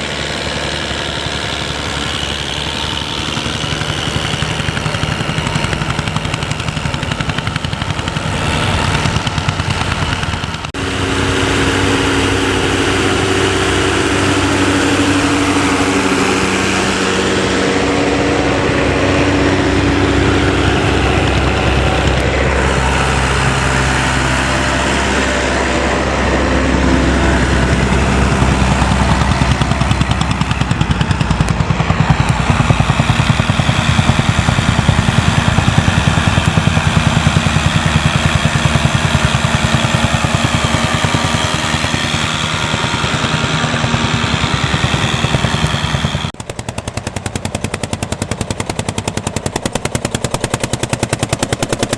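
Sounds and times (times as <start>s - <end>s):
engine with rapid even beat: 0.0s - 51.9s
tractor engines under load: 0.0s - 51.9s.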